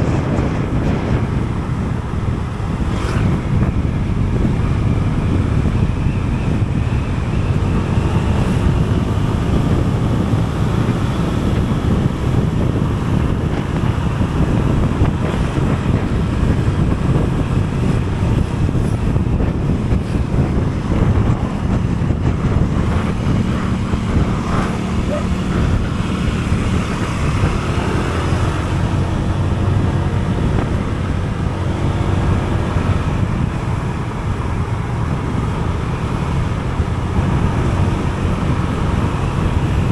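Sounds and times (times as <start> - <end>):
engine and road noise: 0.0 - 39.9
wind rushing over microphone: 0.0 - 39.9.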